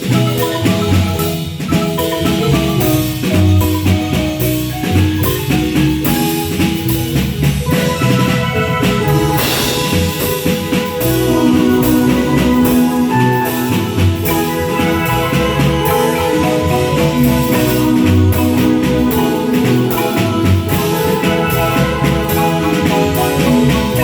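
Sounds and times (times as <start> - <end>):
low bass: 0.0 - 24.0
marimba mallet notes: 0.0 - 24.0
steady drum beat: 0.0 - 24.0.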